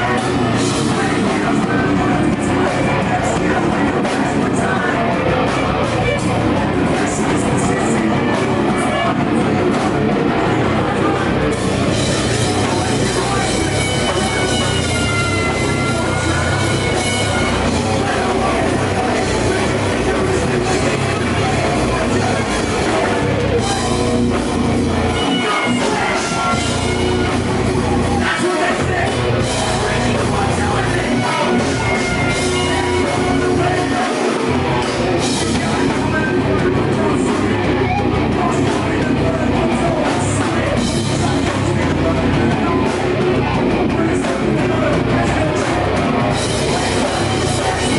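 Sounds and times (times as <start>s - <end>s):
person singing: 0.0s - 47.9s
rock band playing live: 0.0s - 47.9s.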